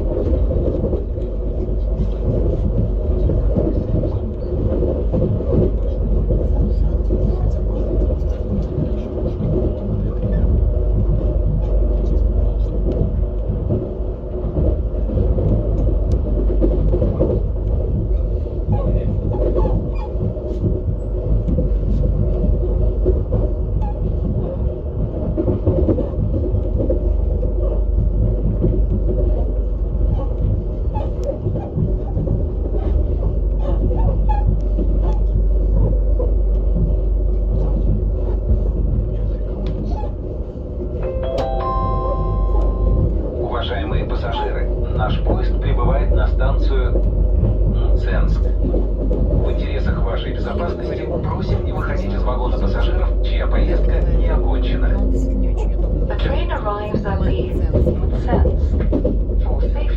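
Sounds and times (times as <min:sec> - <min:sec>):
train rumble on rails: 0:00.0 - 0:59.9.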